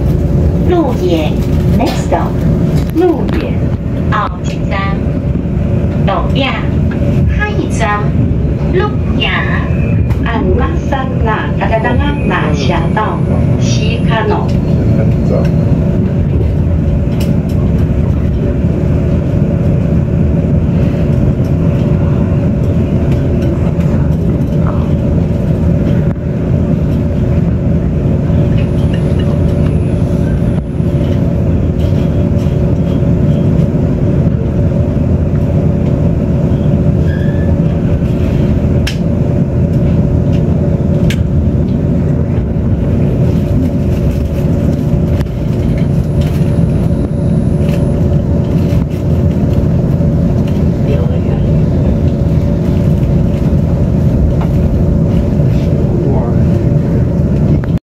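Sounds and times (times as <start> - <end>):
train rumble inside passenger car: 0.0 - 57.8
two-tone hum: 0.0 - 57.8.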